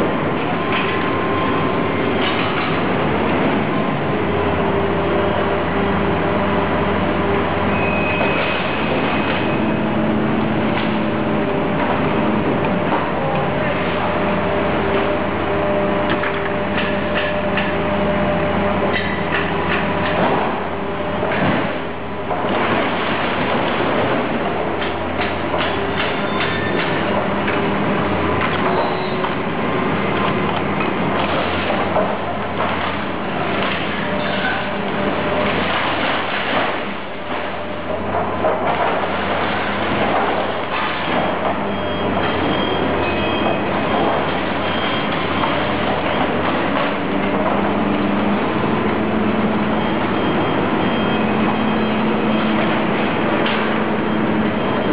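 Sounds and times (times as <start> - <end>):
machinery humming: 0.0 - 54.9.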